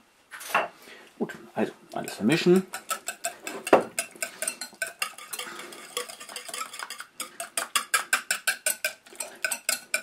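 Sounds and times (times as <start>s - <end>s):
whisk clicking against bowl: 1.9s - 10.0s.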